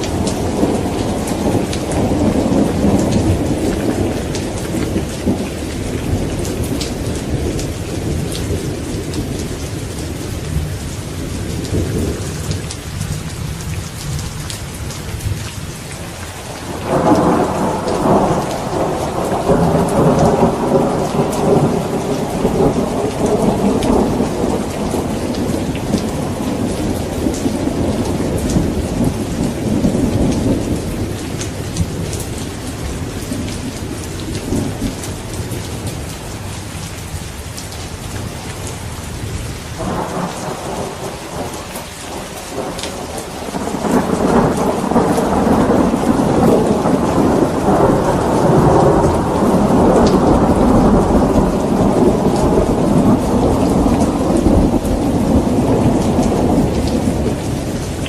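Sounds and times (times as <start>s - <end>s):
thunder rumbling: 0.0s - 14.4s, 16.4s - 36.1s, 38.2s - 58.0s
heavy rain: 0.0s - 58.0s.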